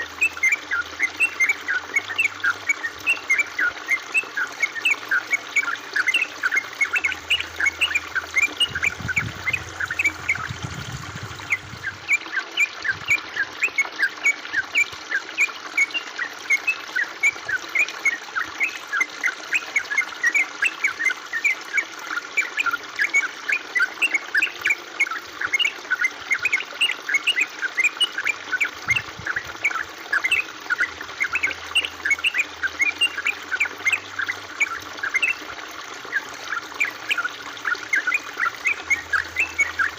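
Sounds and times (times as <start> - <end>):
water babbling over stones: 0.0 - 39.9.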